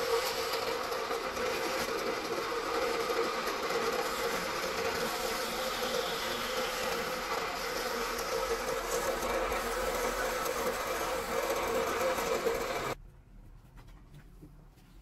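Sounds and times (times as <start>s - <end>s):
machine buzzing hum: 0.0s - 13.0s.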